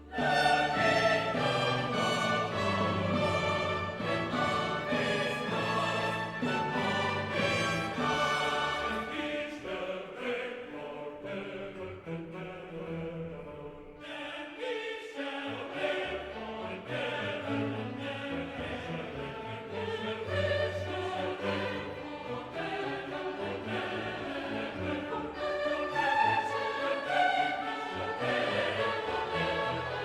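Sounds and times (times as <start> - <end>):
choral and orchestral music: 0.0 - 30.0.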